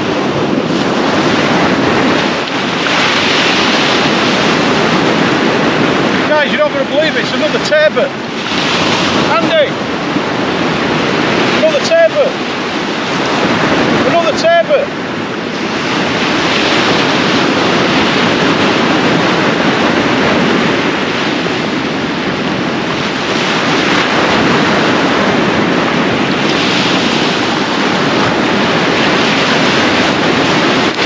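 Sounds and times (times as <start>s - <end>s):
sea surf breaking: 0.0s - 31.0s
wind rumbling on microphone: 0.0s - 31.0s.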